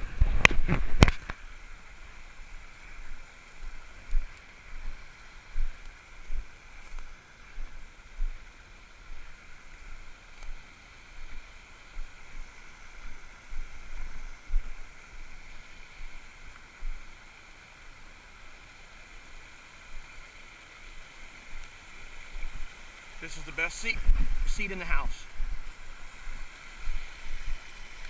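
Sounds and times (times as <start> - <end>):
small waterfall splashing: 0.0 - 28.0.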